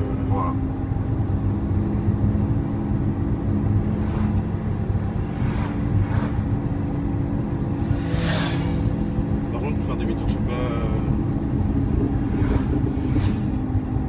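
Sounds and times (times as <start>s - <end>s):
car engine cruising: 0.0s - 14.0s.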